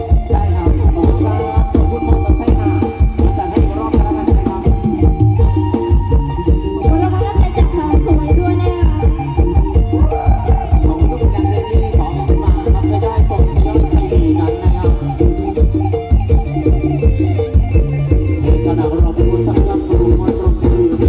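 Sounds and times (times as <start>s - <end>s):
folk-style band music: 0.0s - 21.0s.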